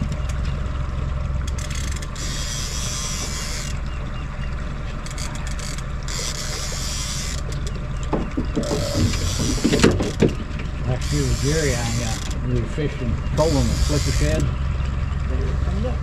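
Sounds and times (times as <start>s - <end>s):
boat motor running at low speed: 0.0s - 16.0s.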